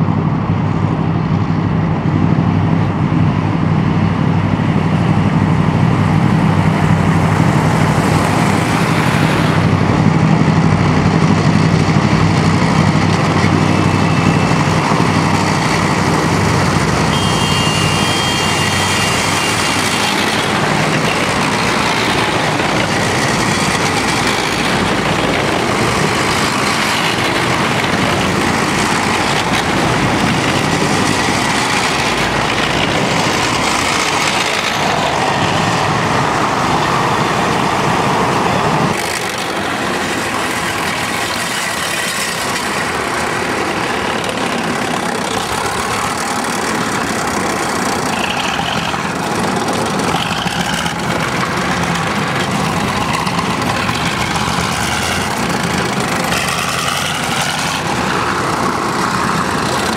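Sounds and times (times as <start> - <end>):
military vehicles driving past: 0.0 - 59.9.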